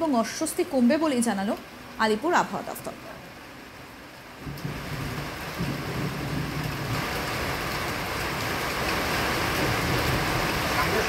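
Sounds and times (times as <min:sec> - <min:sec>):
rain splashing on standing water: 0:00.0 - 0:11.0.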